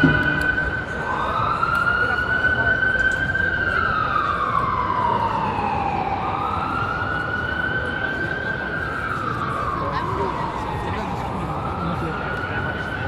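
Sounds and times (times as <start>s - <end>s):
emergency siren wailing: 0.0s - 13.0s.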